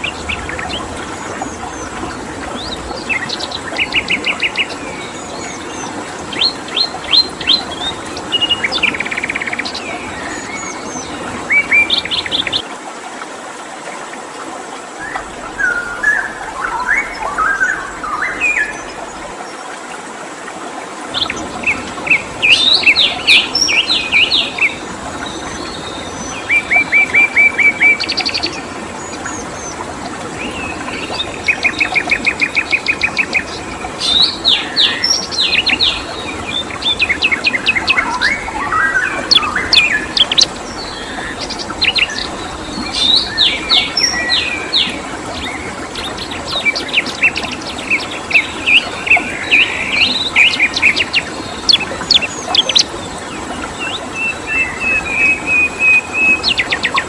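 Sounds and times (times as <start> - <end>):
songbirds chirping and trilling: 0.0 - 12.6, 14.8 - 19.6, 21.2 - 57.0
running water hiss: 0.0 - 57.0.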